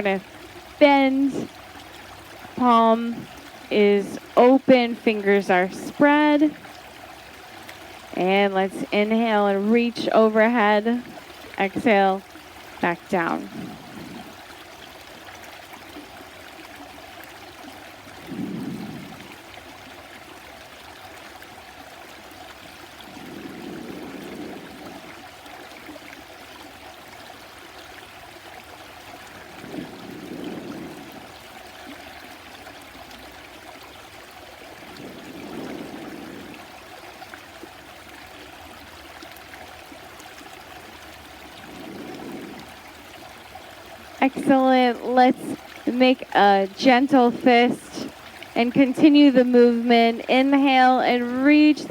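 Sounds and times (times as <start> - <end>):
stream running: 0.0 - 51.9.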